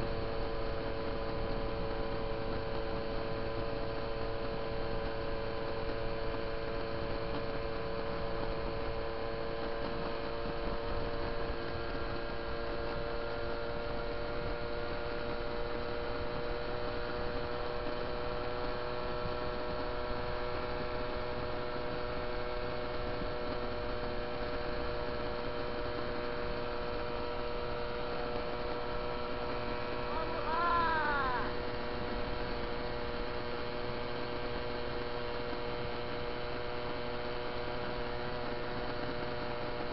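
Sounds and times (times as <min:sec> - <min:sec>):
moped engine droning: 0:00.0 - 0:39.9.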